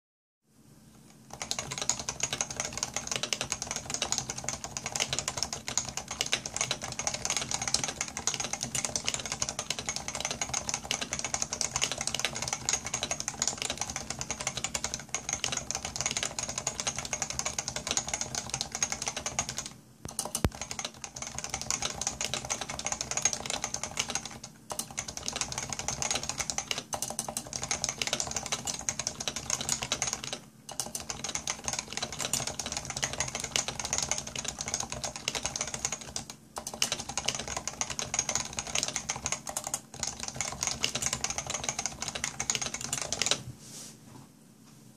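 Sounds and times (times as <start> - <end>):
fast keyboard typing: 1.2 - 43.4.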